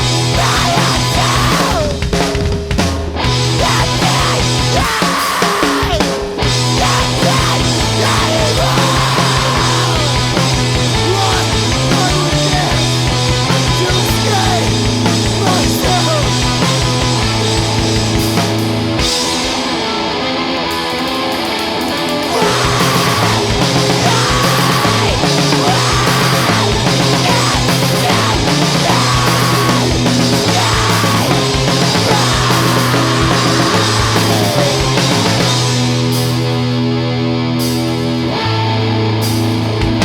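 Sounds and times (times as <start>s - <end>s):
loud rock band: 0.0s - 40.0s.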